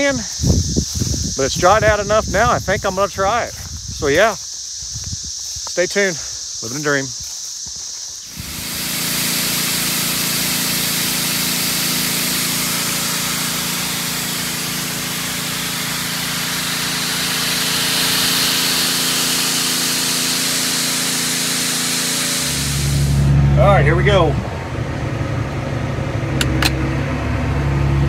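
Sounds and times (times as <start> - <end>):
fan air rushing hiss: 0.0 - 25.0
tractor engine running: 0.0 - 28.0.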